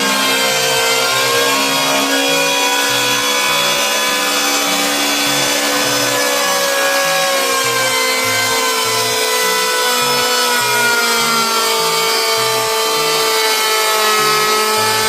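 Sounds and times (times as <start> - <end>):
power saw cutting wood: 0.0 - 15.0.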